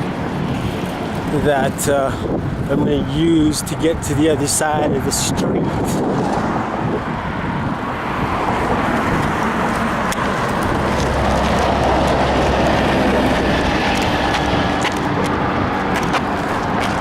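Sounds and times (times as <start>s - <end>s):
heavy vehicle engine hum: 0.0s - 2.7s, 5.6s - 17.0s
road traffic passing: 0.0s - 17.0s.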